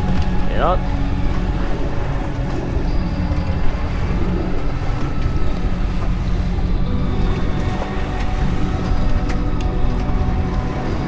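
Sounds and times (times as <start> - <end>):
boat engine droning: 0.0 - 11.0
water noise: 0.0 - 11.0
wind: 0.0 - 11.0.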